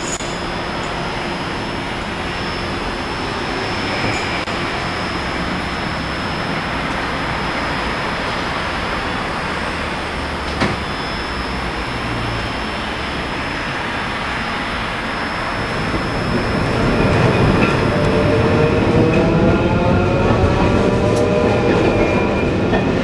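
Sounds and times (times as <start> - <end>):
thin high whine: 0.0 - 18.9.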